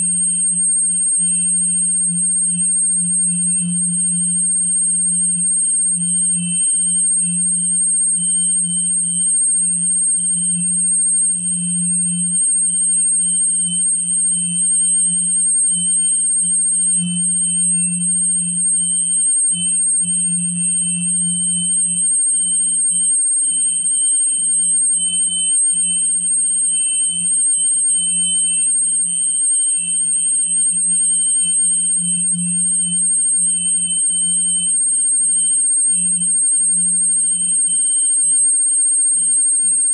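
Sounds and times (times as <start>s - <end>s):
continuous high whine: 0.0s - 39.9s
faint wavering tone: 0.0s - 39.9s.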